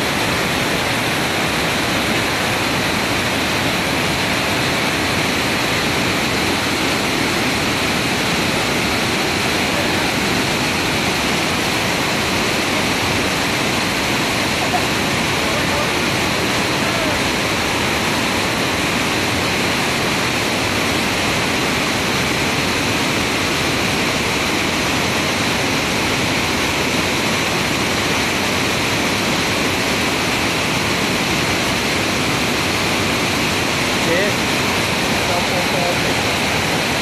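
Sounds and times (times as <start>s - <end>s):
waterfall rushing over rocks: 0.0s - 37.0s.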